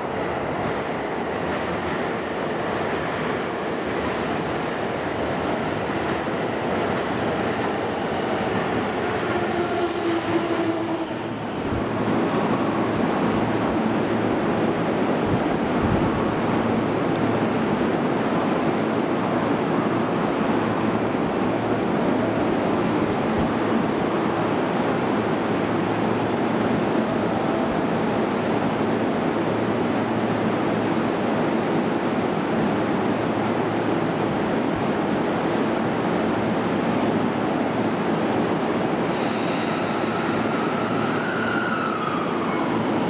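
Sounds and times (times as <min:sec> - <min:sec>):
train rushing roar: 0:00.0 - 0:43.0.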